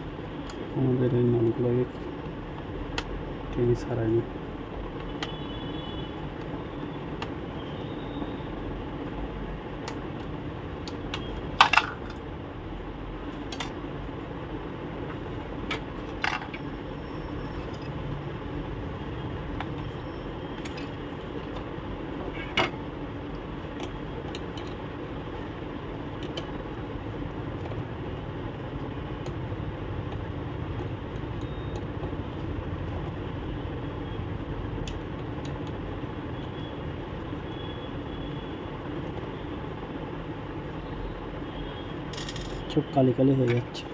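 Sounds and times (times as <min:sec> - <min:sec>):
steady background hum: 0:00.0 - 0:43.9.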